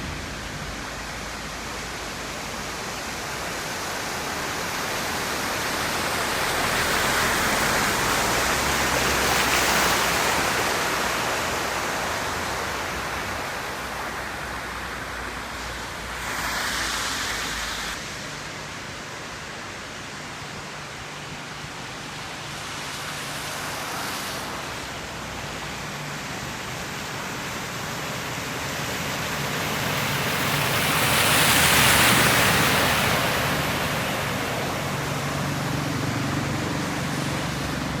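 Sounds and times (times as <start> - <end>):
heavy rain: 0.0 - 38.0
running water: 0.0 - 38.0.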